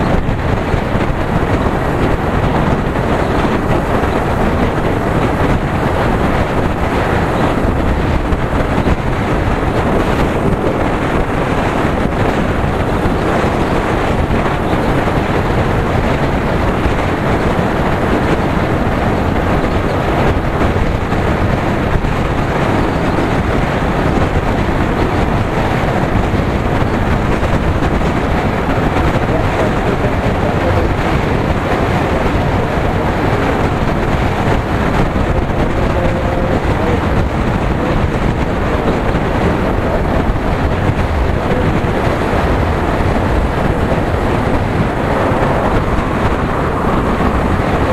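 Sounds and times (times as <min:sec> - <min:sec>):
motorcycle engine running: 0:00.0 - 0:47.9
wind buffeting microphone: 0:00.0 - 0:47.9.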